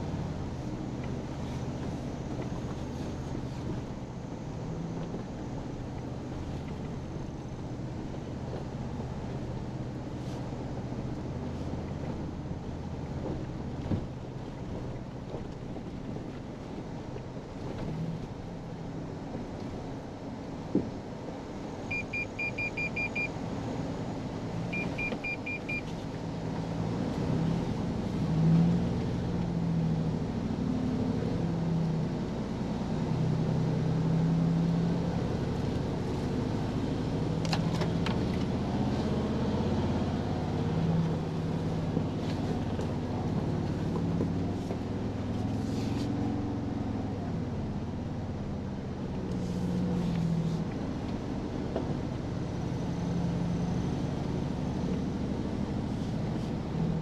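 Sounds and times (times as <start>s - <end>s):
tyre and suspension rumble: 0.0s - 22.4s, 23.5s - 57.0s
truck engine running low: 0.0s - 57.0s.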